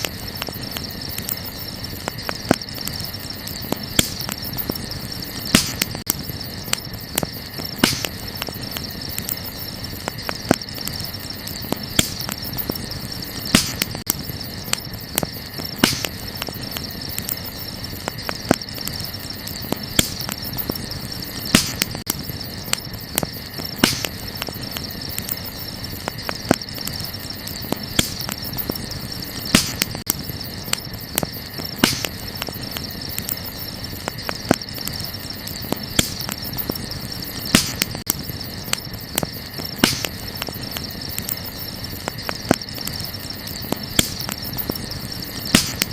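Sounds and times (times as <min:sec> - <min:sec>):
campfire crackling and popping: 0:00.0 - 0:45.9
crickets chirping: 0:00.0 - 0:45.9.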